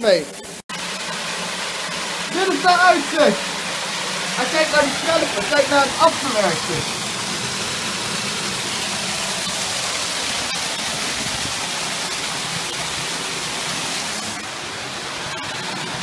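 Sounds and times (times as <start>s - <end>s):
waterfall pouring: 0.1s - 16.0s.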